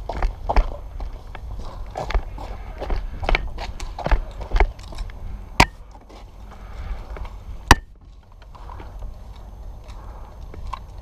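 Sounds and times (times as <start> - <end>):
footstep: 0.0 - 11.0.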